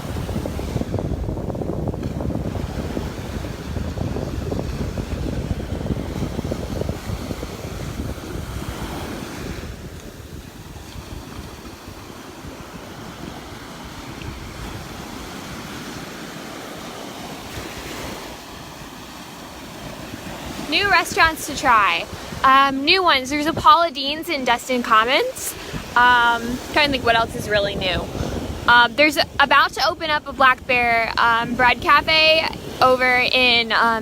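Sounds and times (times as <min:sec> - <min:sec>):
surf washing onto beach: 0:00.0 - 0:34.0
wind buffeting microphone: 0:00.0 - 0:34.0.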